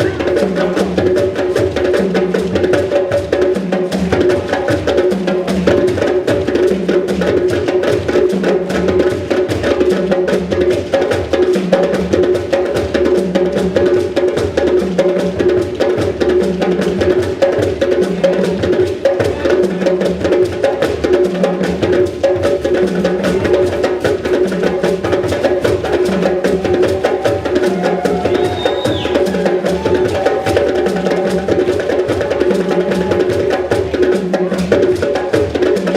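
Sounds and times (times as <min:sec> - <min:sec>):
fast hand drumming: 0:00.0 - 0:35.9.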